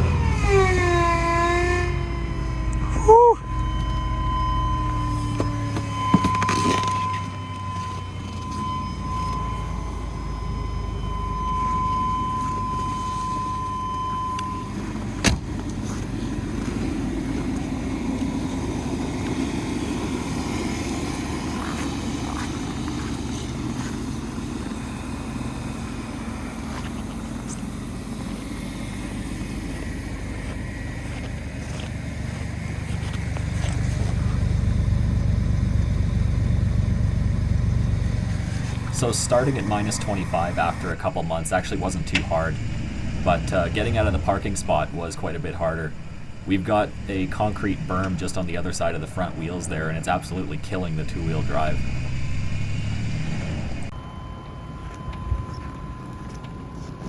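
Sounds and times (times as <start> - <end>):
van engine running: 0.0 - 57.0
steady high tone: 0.1 - 15.2, 15.9 - 57.0.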